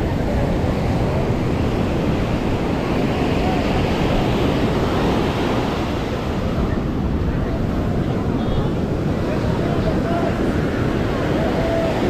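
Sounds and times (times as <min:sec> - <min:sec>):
faint voices: 0:00.0 - 0:12.0
surf washing: 0:00.0 - 0:12.0
wind buffeting the microphone: 0:00.0 - 0:12.0.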